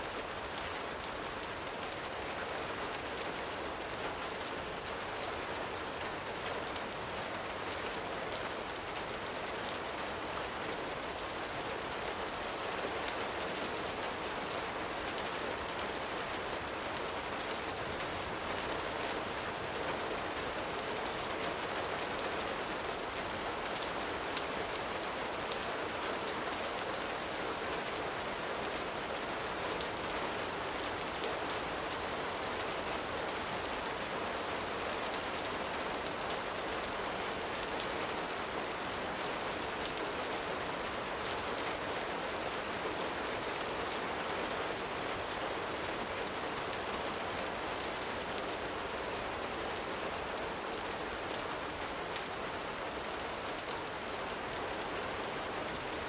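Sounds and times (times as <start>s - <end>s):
gentle rain: 0.0s - 56.0s.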